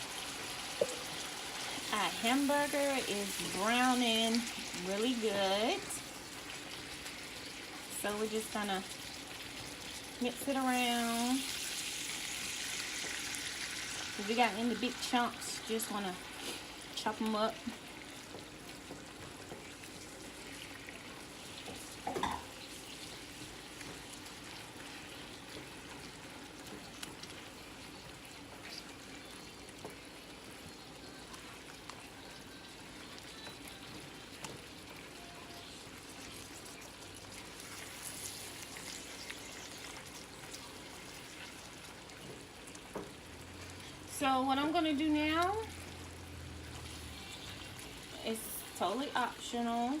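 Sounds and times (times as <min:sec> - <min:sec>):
ground beef sizzling in pot: 0:00.0 - 0:50.0.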